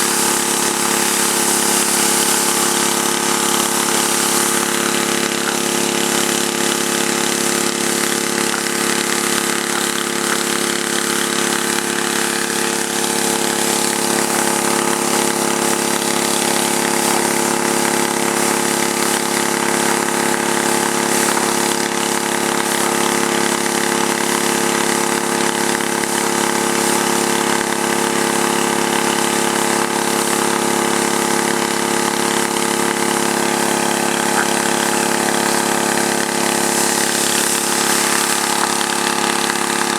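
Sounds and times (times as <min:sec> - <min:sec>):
pressure washer engine running: 0:00.0 - 0:39.9
water spraying hiss: 0:00.0 - 0:39.9.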